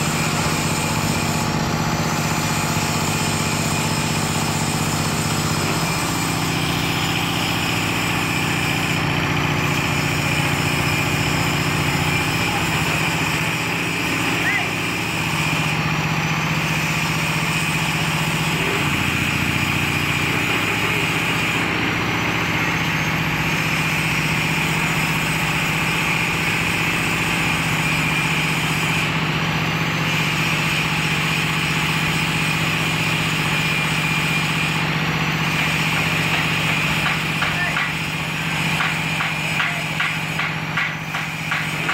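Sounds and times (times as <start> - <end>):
winch motor humming: 0.0 - 41.9.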